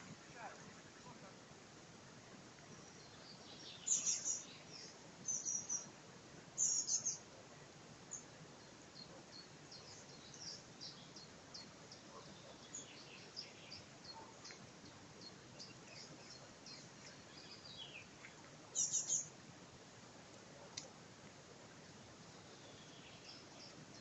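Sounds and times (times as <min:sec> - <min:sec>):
soft steady hiss: 0:00.0 - 0:24.0
small songbirds chirping: 0:02.0 - 0:24.0.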